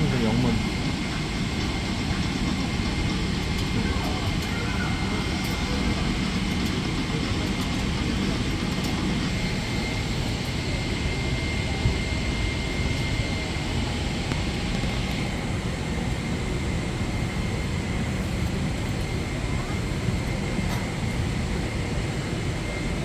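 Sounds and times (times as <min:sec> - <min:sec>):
airliner cabin engine rushing: 0:00.0 - 0:23.0.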